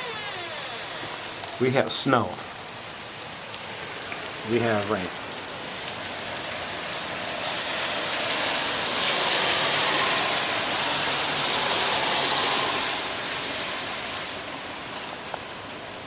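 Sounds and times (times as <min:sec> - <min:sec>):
rain and wet snow falling: 0:00.0 - 0:16.0.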